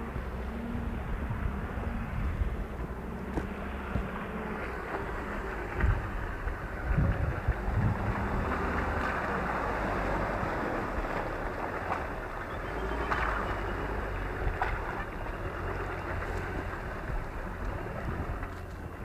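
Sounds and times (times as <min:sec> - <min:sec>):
engine running: 0:00.0 - 0:19.0
water and mud splashing: 0:00.0 - 0:19.0.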